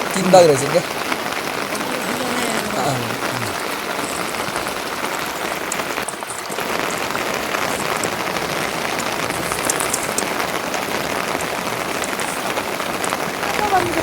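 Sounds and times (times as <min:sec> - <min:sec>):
sharp raindrop ticks: 0:00.0 - 0:14.0
steady rain patter: 0:00.0 - 0:14.0.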